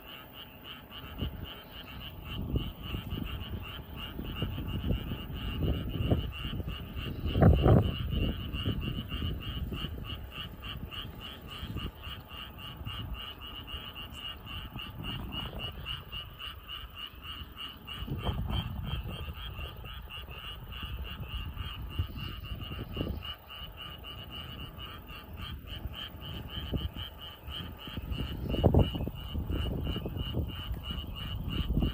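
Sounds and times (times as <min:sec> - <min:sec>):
frogs croaking in chorus: 0:00.0 - 0:31.9.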